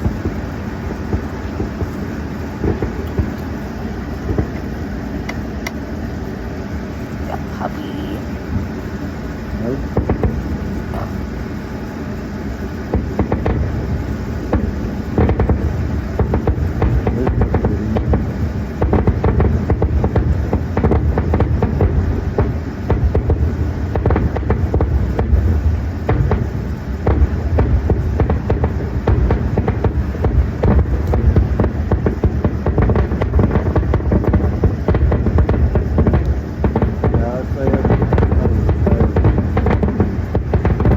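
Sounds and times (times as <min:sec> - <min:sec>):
fireworks pops and crackles: 0:00.0 - 0:06.1, 0:07.0 - 0:40.9
distant fireworks rumble: 0:00.0 - 0:40.9.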